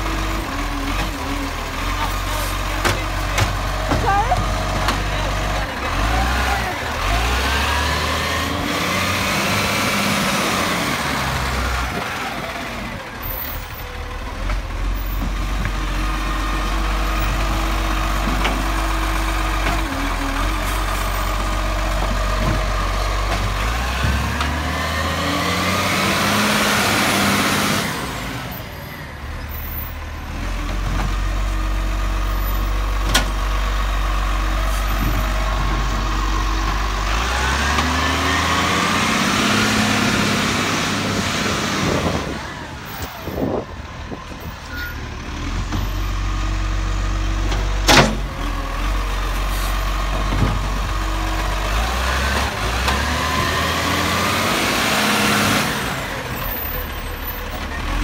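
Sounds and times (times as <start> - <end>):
garbage truck engine running: 0.0 - 58.0.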